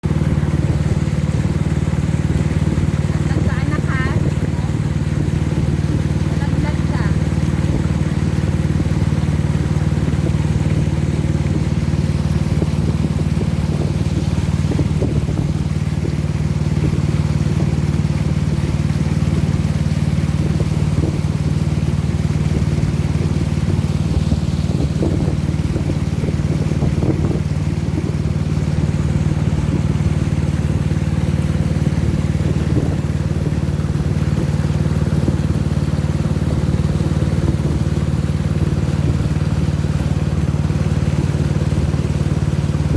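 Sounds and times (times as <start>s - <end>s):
motorboat engine running: 0.0s - 42.9s.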